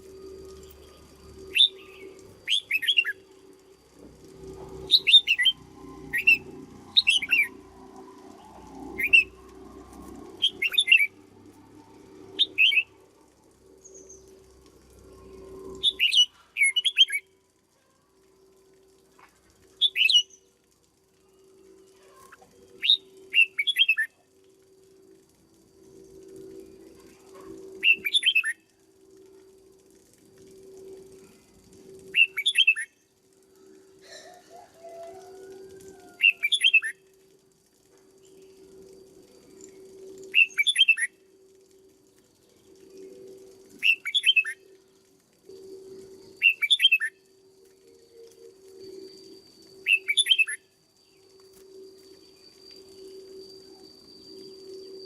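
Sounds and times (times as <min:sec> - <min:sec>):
bulbul singing: 0:00.0 - 0:17.4, 0:19.6 - 0:20.6, 0:21.2 - 0:24.3, 0:25.8 - 0:29.7, 0:30.5 - 0:37.2, 0:38.1 - 0:55.0.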